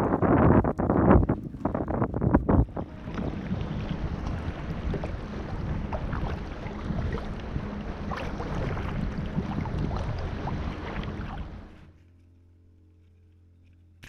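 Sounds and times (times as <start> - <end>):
wind on microphone: 0.0 - 11.9
paddle splashing water: 0.0 - 12.1.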